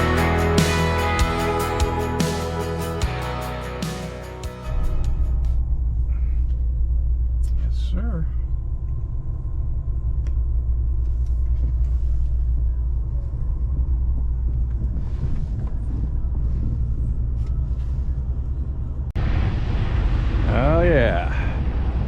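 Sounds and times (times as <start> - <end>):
road noise: 0.0 - 22.0
vehicle engine rumble: 0.0 - 22.0.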